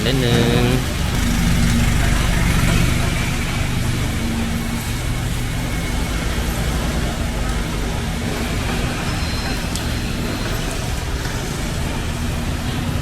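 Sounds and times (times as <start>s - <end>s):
motor running with humming drone: 0.0s - 10.9s.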